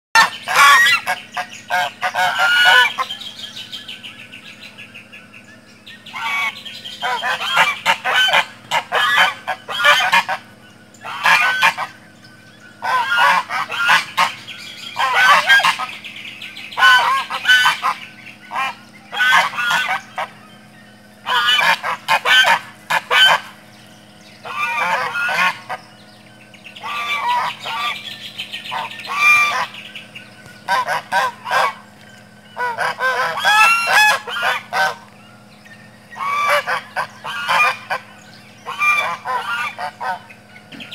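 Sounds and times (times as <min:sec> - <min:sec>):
geese honking: 0:00.2 - 0:04.8, 0:06.0 - 0:40.9.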